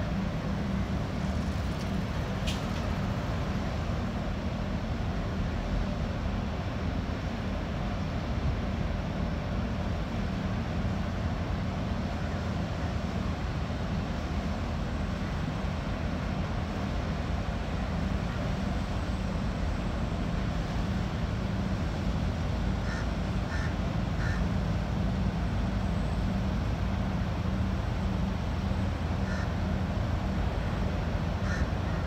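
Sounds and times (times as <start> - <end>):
ship engine droning: 0.0 - 32.0
wind and water wash: 0.0 - 32.0.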